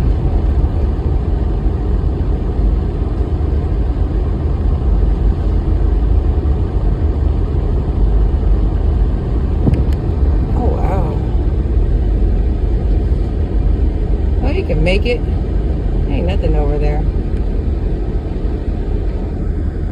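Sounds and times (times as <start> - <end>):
car engine and road noise: 0.0 - 19.9.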